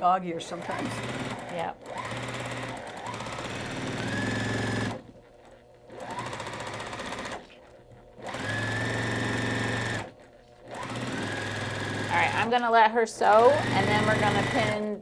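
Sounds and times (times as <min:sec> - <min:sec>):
electric sewing machine stitching: 0:00.4 - 0:15.0.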